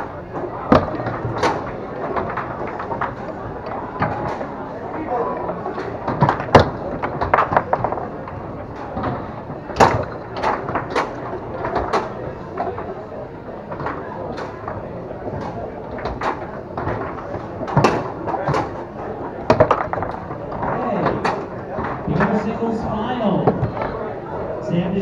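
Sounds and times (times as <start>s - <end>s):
foosball ball clacks: 0.0s - 24.3s.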